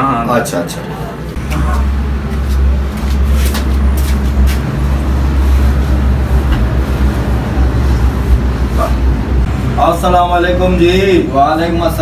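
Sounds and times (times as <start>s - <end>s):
low rumble: 1.4s - 11.3s.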